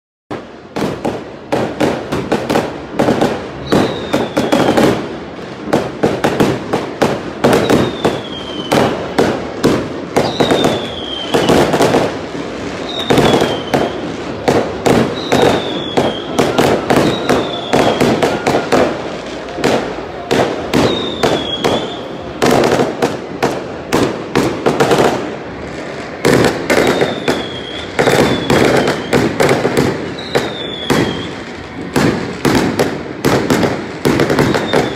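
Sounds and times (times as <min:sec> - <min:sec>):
falling firework whistle: 0:00.3 - 0:34.9
fireworks bangs and crackles: 0:00.3 - 0:34.9.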